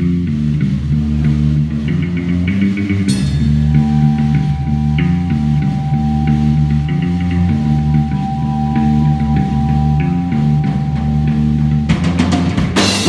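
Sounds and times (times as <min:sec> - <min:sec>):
bass guitar: 0:00.0 - 0:13.0
drum kit: 0:00.0 - 0:13.0
electric guitar: 0:00.0 - 0:13.0.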